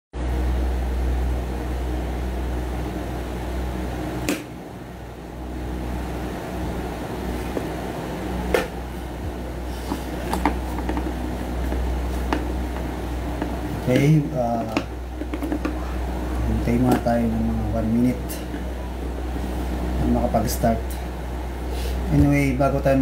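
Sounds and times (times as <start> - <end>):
low machine hum: 0.2 - 23.0.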